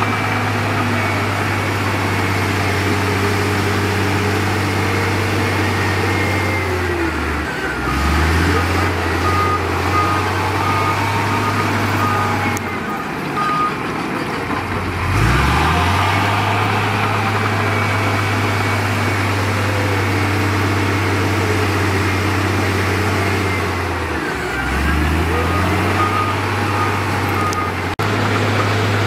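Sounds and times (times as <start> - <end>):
reversing alarm beeping: 0.0 - 28.8
heavy diesel machinery engine: 0.0 - 29.0.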